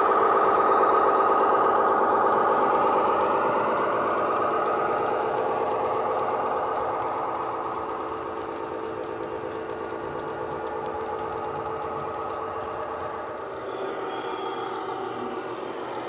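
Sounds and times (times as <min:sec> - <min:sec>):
diesel engine sound from small speaker: 0:00.0 - 0:16.0.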